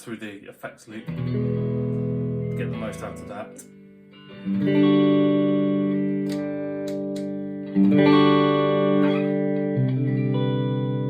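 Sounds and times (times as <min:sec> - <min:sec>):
electric guitar chords strummed: 0:01.0 - 0:11.0.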